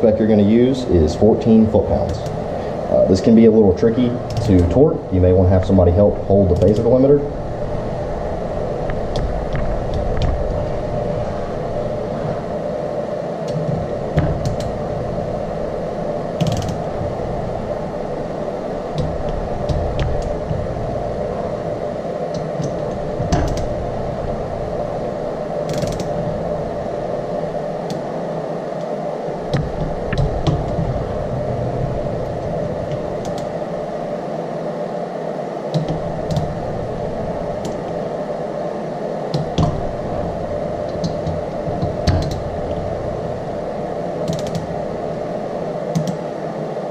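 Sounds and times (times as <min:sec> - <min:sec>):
steady background hum: 0:00.0 - 0:46.9.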